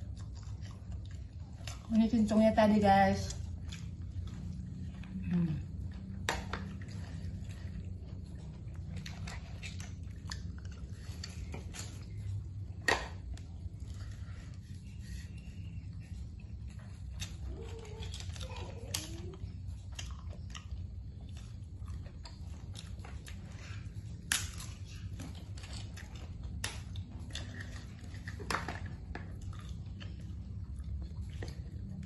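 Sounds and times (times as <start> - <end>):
person chewing: 0.0 - 1.9, 3.4 - 32.0
steady low hum: 0.0 - 32.0.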